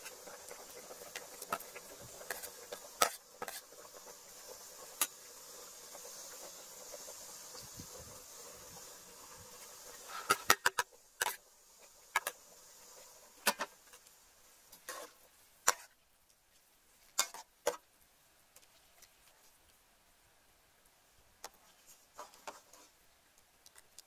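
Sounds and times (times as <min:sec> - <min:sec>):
simmering pot hiss: 0:00.0 - 0:24.0.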